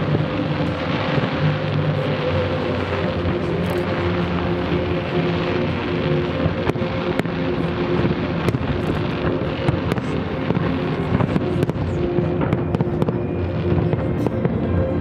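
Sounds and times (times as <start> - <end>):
continuous loud hum: 0.0 - 15.0.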